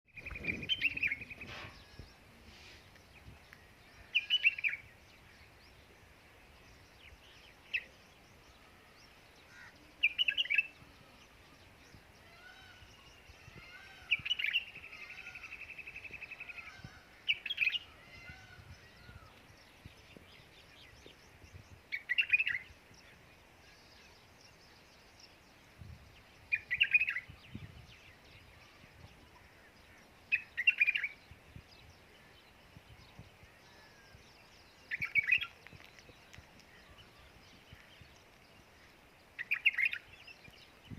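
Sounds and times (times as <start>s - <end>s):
bird chirping: 0.1s - 40.9s.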